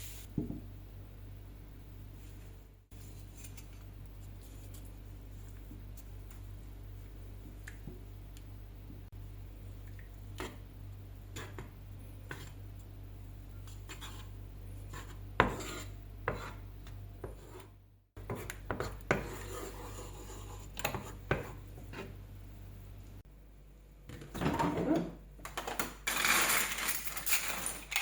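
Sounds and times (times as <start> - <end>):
steady low hum: 0.0 - 25.5.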